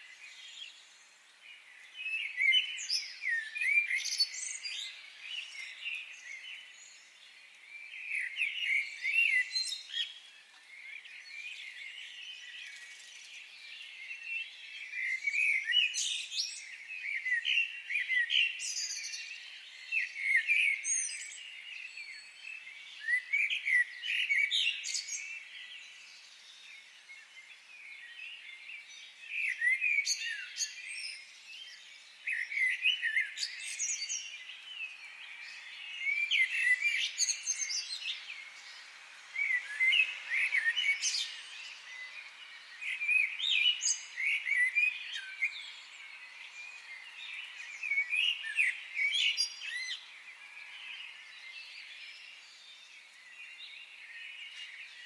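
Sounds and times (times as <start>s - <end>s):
birds chirping and singing: 0.1s - 55.0s.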